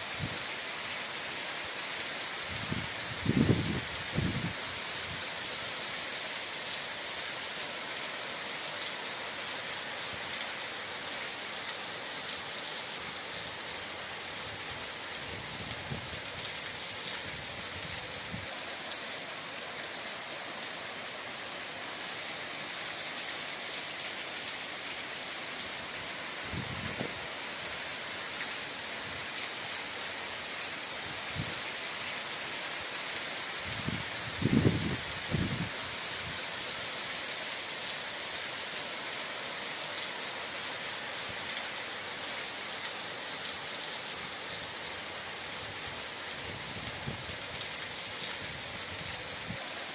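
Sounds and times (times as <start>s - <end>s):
steady rain: 0.0s - 49.9s.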